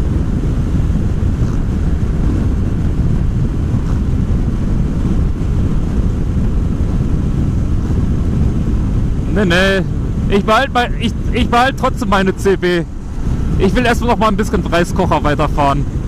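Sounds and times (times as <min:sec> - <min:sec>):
motorcycle engine running: 0:00.0 - 0:16.0
road noise: 0:00.0 - 0:16.0
wind rush over microphone: 0:00.0 - 0:16.0.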